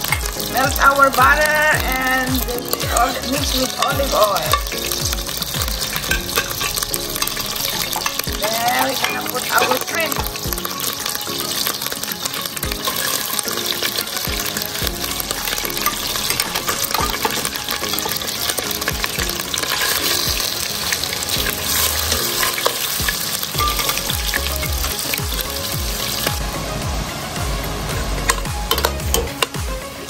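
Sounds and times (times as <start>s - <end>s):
shrimp sizzling in butter: 0.0s - 30.0s.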